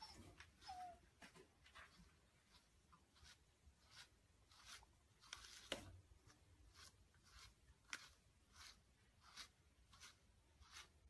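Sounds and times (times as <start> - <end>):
brush stroking through fur: 0.0 - 11.0.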